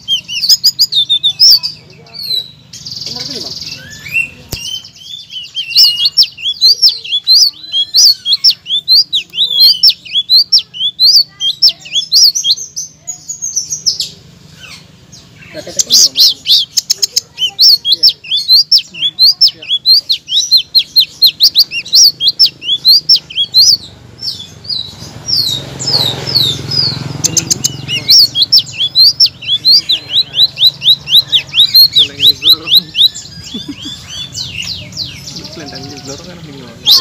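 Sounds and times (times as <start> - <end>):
songbird singing loudly: 0.0 - 37.0.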